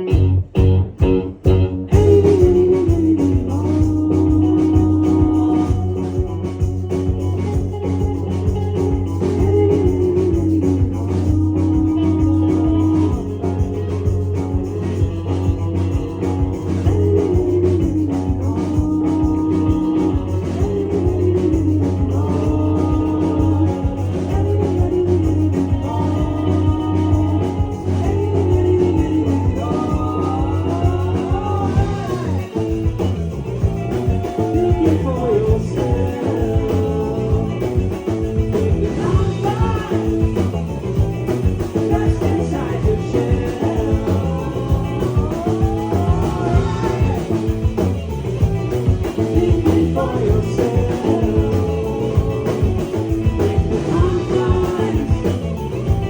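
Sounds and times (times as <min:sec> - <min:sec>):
drums: 0:00.0 - 0:56.0
gliding guitar or synth notes: 0:00.0 - 0:56.0
heavy bass line: 0:00.0 - 0:56.0
person singing: 0:01.8 - 0:56.0.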